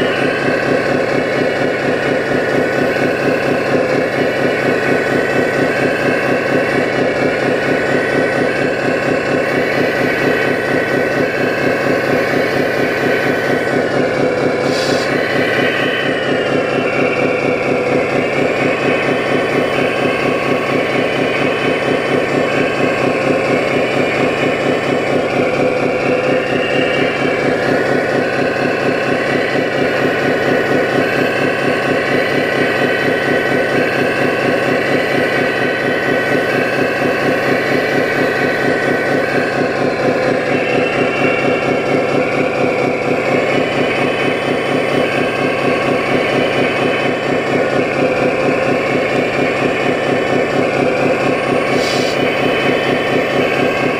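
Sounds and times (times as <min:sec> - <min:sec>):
model diesel engine sound: 0:00.0 - 0:53.9
whine rising and falling: 0:00.0 - 0:53.9.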